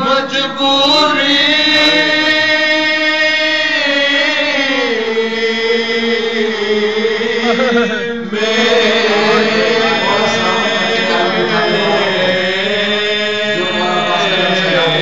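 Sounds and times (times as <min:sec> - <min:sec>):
men chanting into a microphone: 0:00.0 - 0:15.0.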